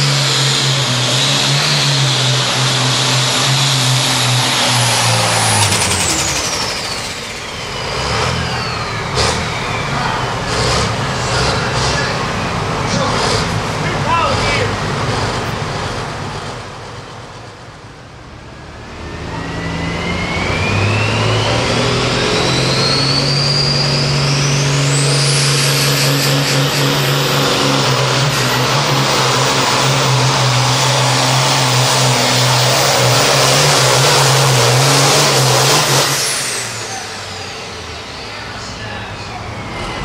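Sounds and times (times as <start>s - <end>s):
turbo whine: 0.0s - 13.0s, 18.4s - 40.0s
diesel tractor engine at full throttle: 0.0s - 40.0s.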